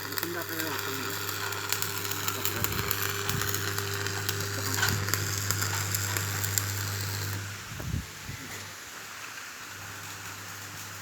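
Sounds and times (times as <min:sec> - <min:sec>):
welding arc crackling: 0:00.0 - 0:08.0, 0:08.6 - 0:11.0
welding machine low hum: 0:00.0 - 0:11.0.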